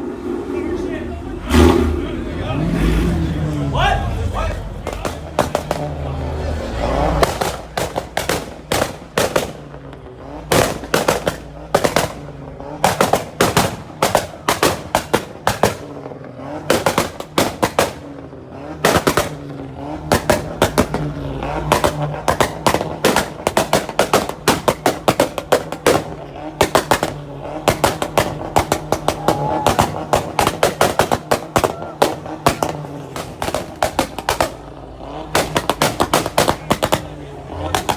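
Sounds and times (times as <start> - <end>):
car engine revving: 0.0 - 37.9
exhaust pops and bangs: 1.4 - 3.2, 4.3 - 37.9.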